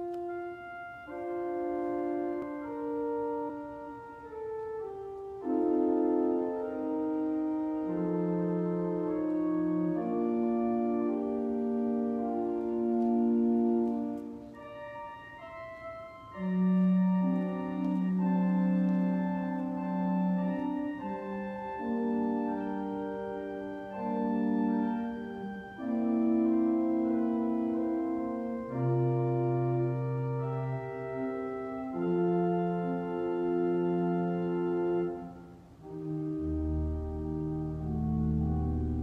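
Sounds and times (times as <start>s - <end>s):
organ playing slow chords: 0.0s - 39.0s.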